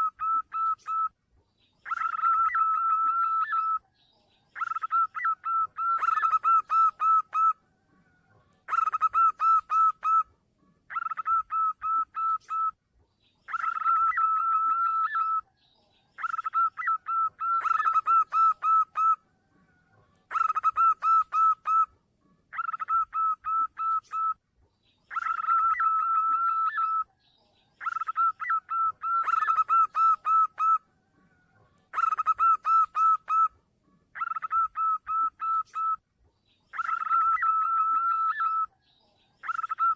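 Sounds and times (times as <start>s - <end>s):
dove cooing: 0.0s - 1.1s, 1.8s - 3.8s, 4.6s - 10.3s, 10.9s - 12.7s, 13.5s - 15.4s, 16.2s - 21.9s, 22.5s - 24.4s, 25.1s - 27.1s, 27.8s - 36.0s, 36.7s - 38.8s, 39.4s - 39.9s.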